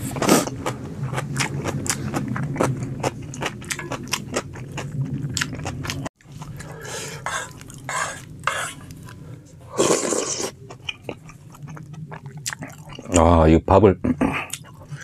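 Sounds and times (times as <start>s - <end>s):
person chewing crunchy food: 0.0s - 9.2s, 9.8s - 13.2s, 14.4s - 15.0s.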